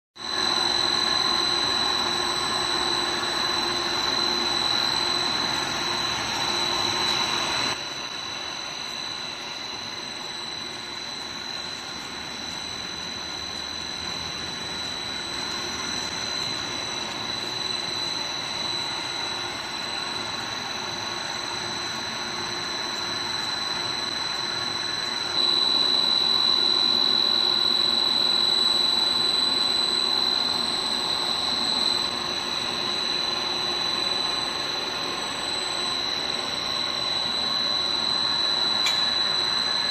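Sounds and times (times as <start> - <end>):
high-pitched whine: 0.2 - 39.9.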